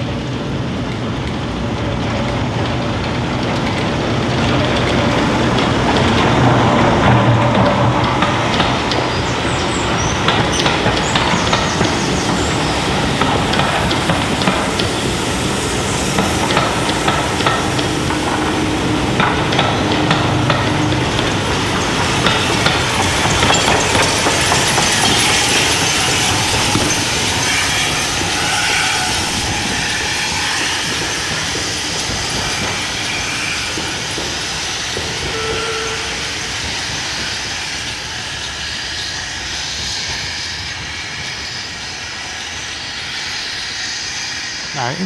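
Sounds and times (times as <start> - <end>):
train wheels clattering over rails: 0.0 - 44.7.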